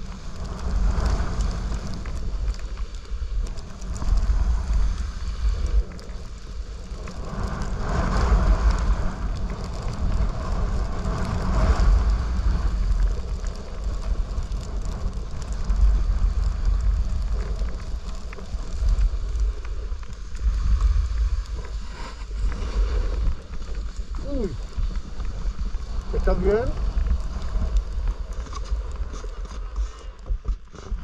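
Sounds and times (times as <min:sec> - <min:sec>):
snowboard scraping over snow: 0:00.0 - 0:31.0
wind buffeting microphone: 0:00.0 - 0:31.0.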